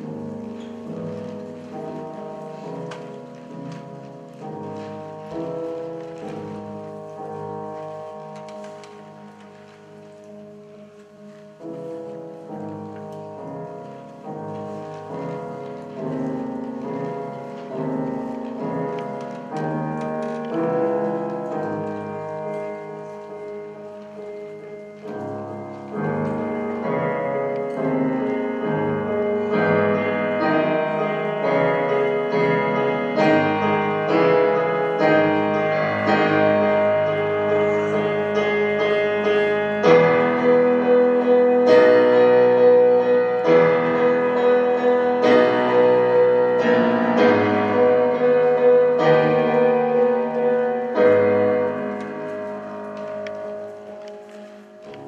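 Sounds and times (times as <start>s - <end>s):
slow piano music: 0.0s - 55.0s.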